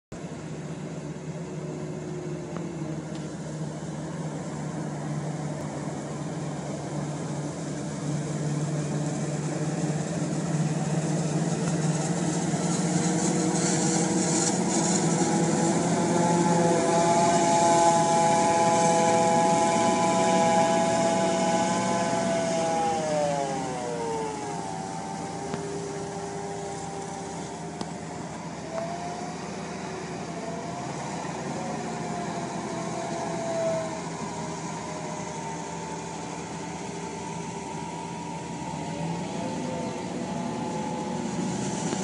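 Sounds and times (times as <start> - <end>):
harvester and tractor engines droning: 0.1 - 42.0
steady machine whine: 0.1 - 42.0.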